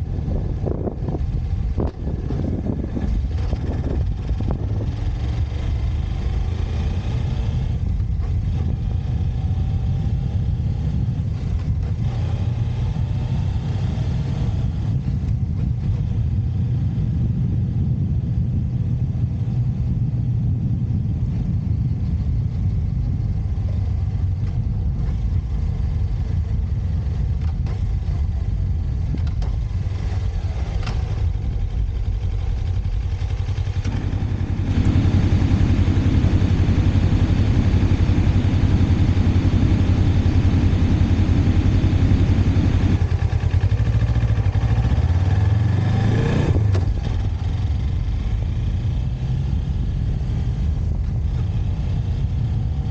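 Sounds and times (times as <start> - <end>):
motorcycle engine: 0.0 - 52.9
road and wind noise: 0.0 - 52.9.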